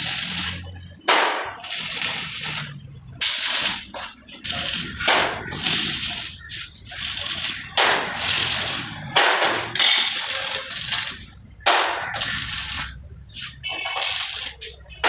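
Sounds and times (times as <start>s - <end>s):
welding arc crackling and hissing: 0.0s - 0.7s, 1.4s - 11.4s, 12.0s - 14.9s.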